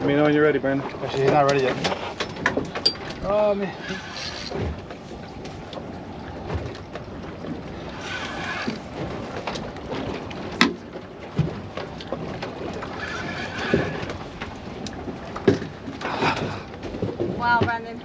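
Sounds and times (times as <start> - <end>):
water around a boat: 0.0 - 18.0
wind: 0.0 - 18.0.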